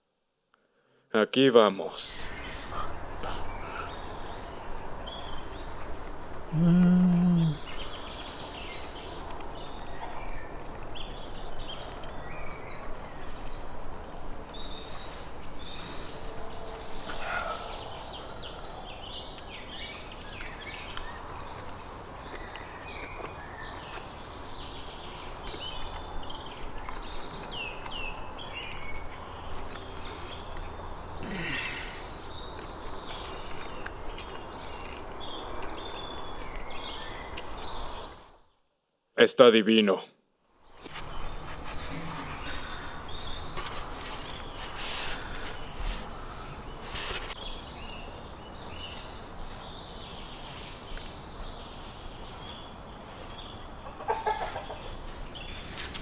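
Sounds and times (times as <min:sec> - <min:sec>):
small birds chirping: 0:01.8 - 0:38.6, 0:40.6 - 0:56.0.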